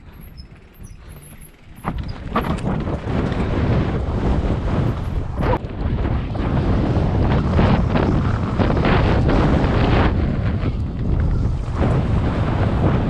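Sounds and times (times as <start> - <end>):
bike tyre and frame rattle: 0.0 - 13.0
wind rushing over microphone: 0.0 - 13.0.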